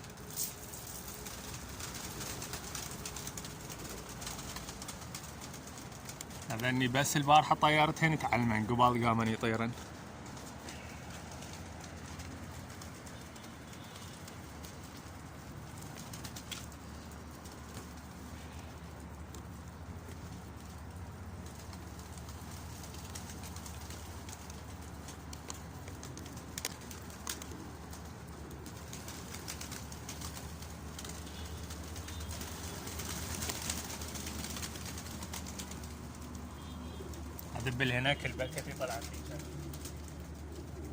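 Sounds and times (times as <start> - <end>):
pigeons cooing: 0.0 - 40.9
wings flapping: 0.0 - 40.9.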